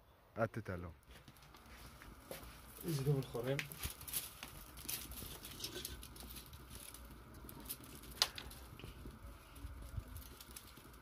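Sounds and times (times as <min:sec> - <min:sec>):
twigs crackling in a wood fire: 0:01.0 - 0:11.0
loud fire crack: 0:01.2 - 0:11.0.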